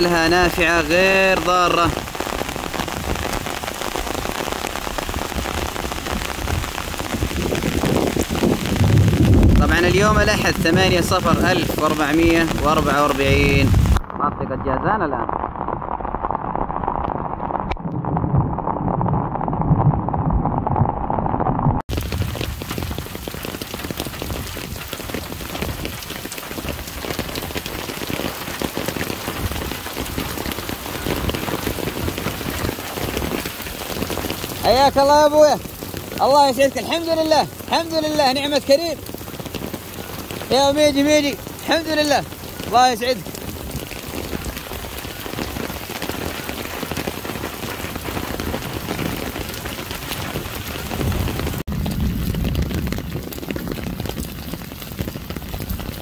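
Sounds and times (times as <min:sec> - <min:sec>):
raindrops striking close by: 0:00.0 - 0:56.0
steady rain falling: 0:00.0 - 0:56.0.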